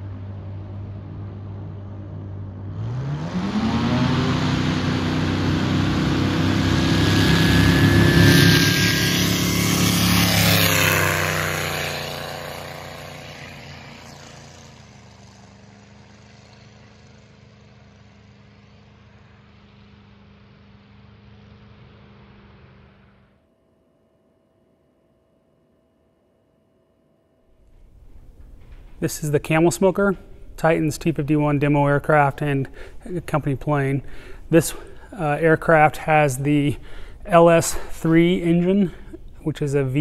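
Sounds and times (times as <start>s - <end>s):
propeller plane engine taking off: 0.0s - 23.4s, 27.6s - 40.0s.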